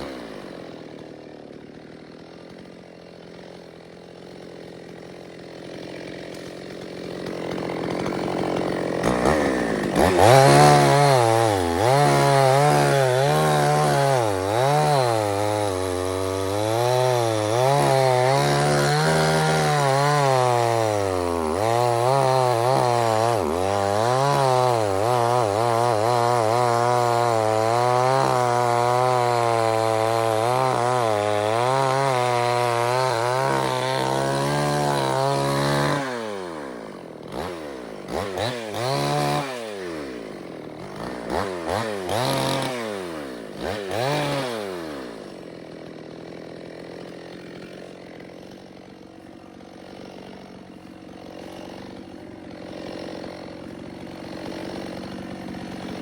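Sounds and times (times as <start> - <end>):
chainsaw cutting: 0.0 - 56.0.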